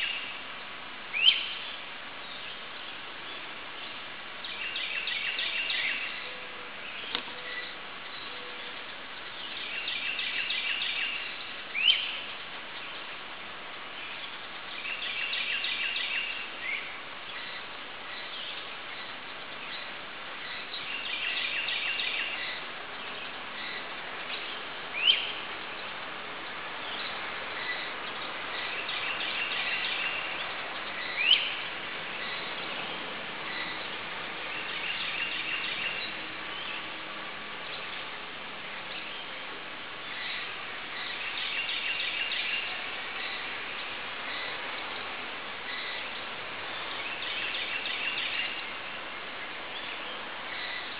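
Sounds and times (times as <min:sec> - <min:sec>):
background hiss: 0:00.0 - 0:50.9.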